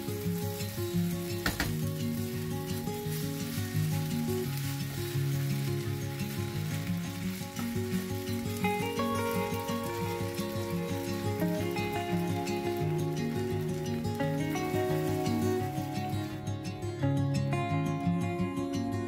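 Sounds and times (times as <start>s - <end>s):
wooden spatula stirring: 0.0s - 16.2s
rice sizzling in oil: 0.0s - 18.9s
background music: 0.0s - 19.0s.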